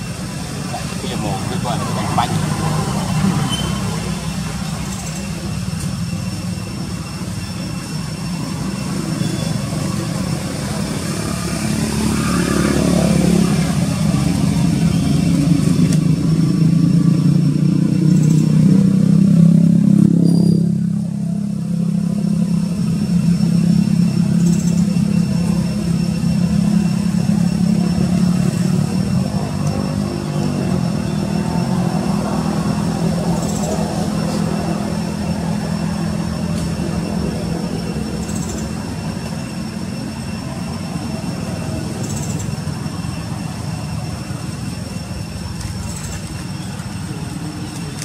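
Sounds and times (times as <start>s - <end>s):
motor engine humming: 0.0s - 48.0s.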